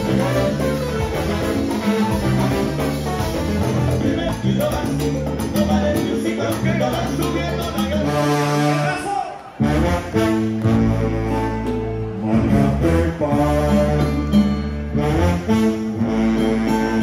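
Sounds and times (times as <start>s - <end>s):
trombone section: 0.0s - 4.6s, 7.8s - 17.0s
live salsa band playing: 0.0s - 17.0s.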